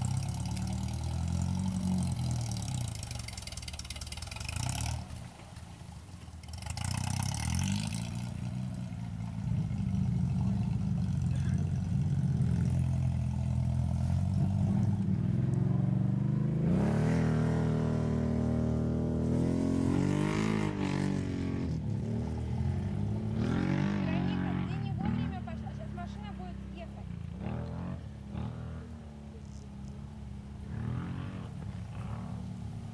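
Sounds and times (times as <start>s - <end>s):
off-road vehicle engine revving: 0.0s - 32.9s.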